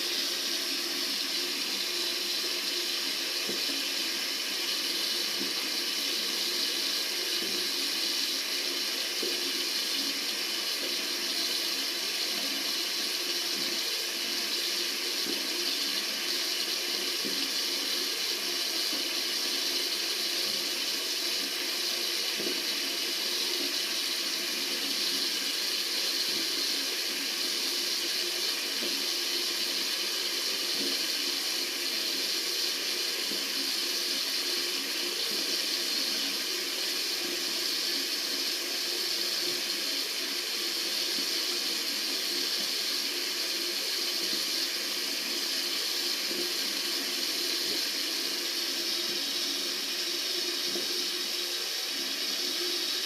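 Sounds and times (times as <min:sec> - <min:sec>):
tap water running: 0:00.0 - 0:53.0.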